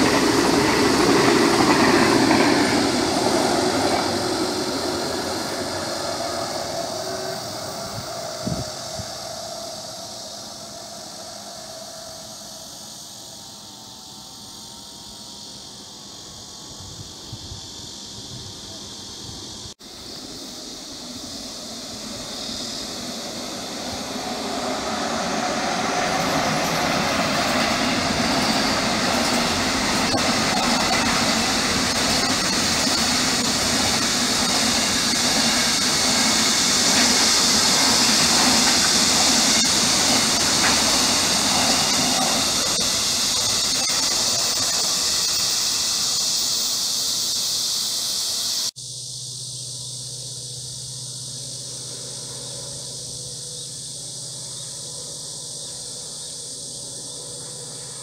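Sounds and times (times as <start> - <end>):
freight train wheels on rail: 0.0 - 58.0.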